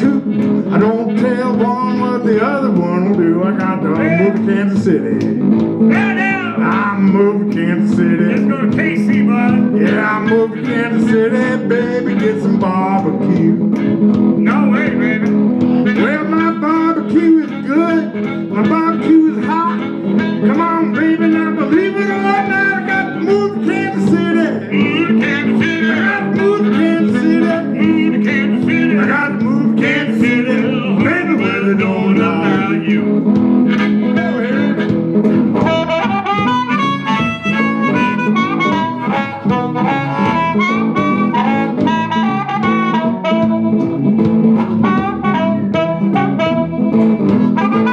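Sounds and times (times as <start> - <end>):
blues guitar: 0.0 - 47.9
harmonica with bent notes: 0.0 - 47.9.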